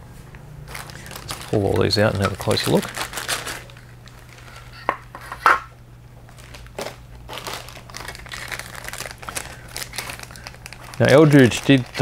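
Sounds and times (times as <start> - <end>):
plastic bags crinkling: 0.7 - 4.8, 6.2 - 12.0.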